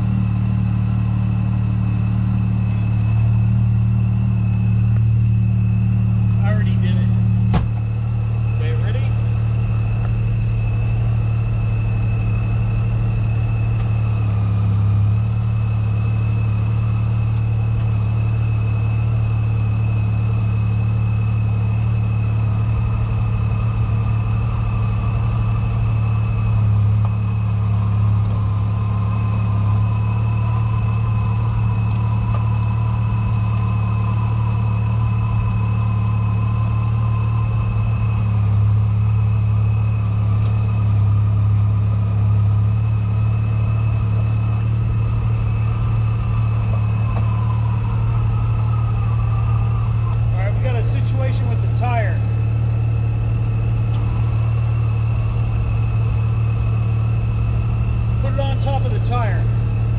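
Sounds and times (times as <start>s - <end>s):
steady high whine: 0.0s - 59.9s
utility vehicle engine running: 0.0s - 59.9s.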